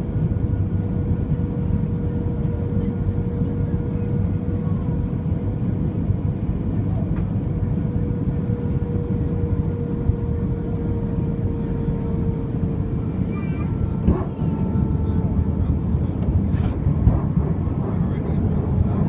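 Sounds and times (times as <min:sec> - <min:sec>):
aircraft cabin engine roar: 0:00.0 - 0:19.0.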